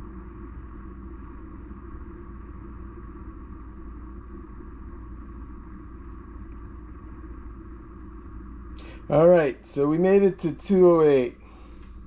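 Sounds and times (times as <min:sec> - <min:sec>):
kettle water heating rumble: 0:00.0 - 0:12.0.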